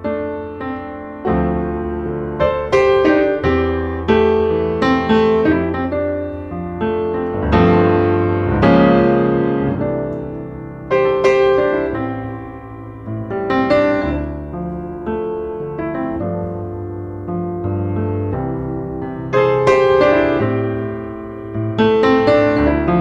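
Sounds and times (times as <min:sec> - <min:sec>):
slow tender piano music: 0:00.0 - 0:23.0.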